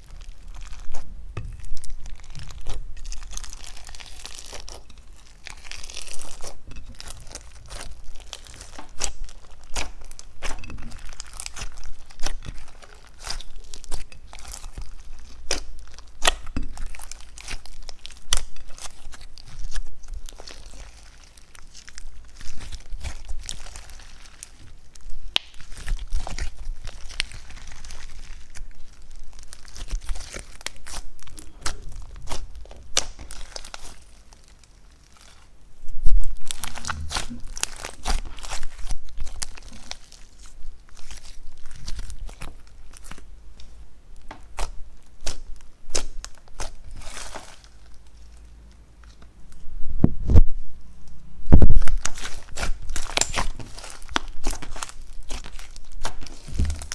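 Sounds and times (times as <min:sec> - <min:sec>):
slime crackling and popping: 0:00.0 - 0:49.6, 0:51.5 - 0:56.9.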